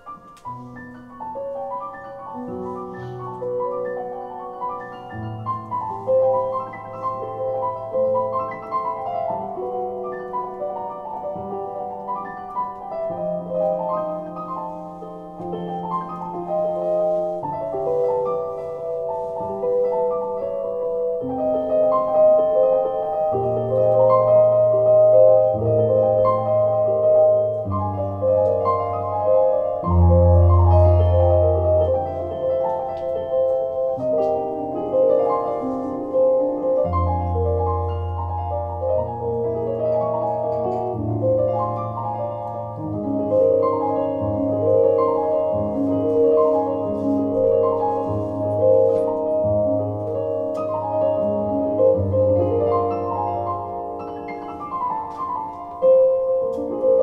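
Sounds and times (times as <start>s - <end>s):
solo keyboard music: 0.0s - 57.0s.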